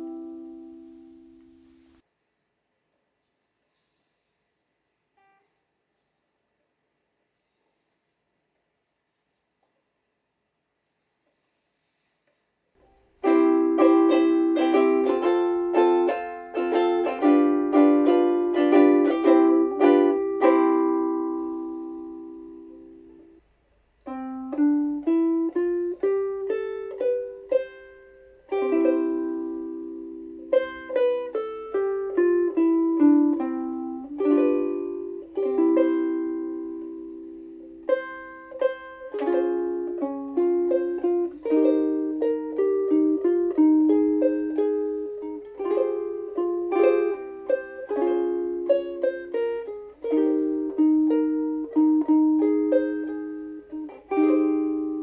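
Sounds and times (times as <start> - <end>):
ukulele playing: 0.0 - 2.0, 12.8 - 55.0.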